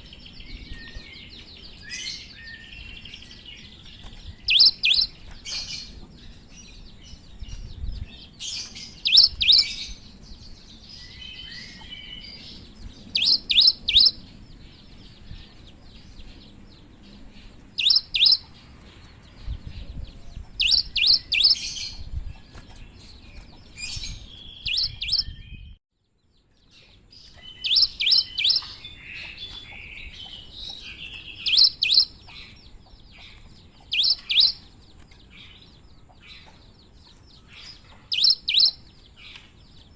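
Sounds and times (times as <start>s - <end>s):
bird twittering: 0.0s - 14.7s, 17.7s - 18.6s, 20.1s - 25.8s, 26.8s - 39.5s.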